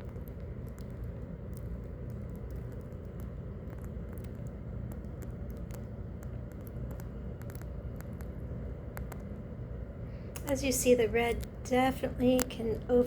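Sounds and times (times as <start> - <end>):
faint clicks and ticks: 0.0 - 13.0
low background rumble: 0.0 - 13.0.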